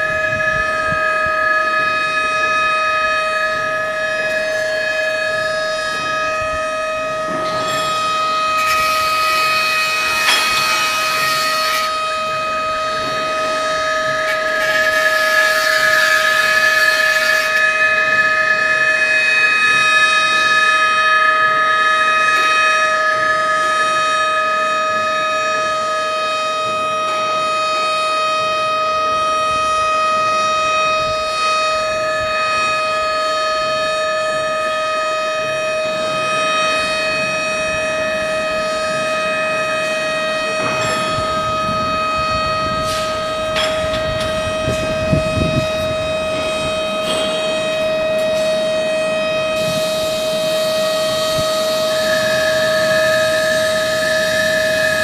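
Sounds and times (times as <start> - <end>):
siren-like noise drone: 0.0 - 55.0.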